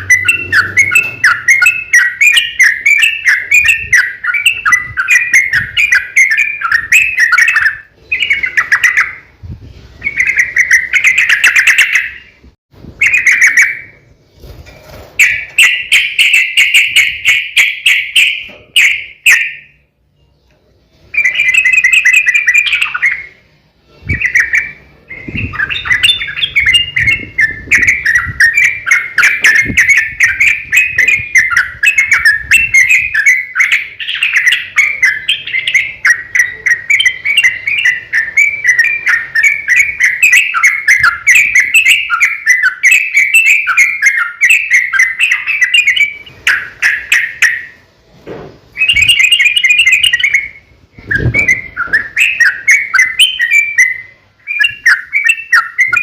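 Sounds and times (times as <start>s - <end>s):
bulbul chattering song: 0.0s - 9.4s, 10.0s - 12.4s, 15.2s - 20.0s, 20.9s - 47.9s, 48.7s - 56.0s.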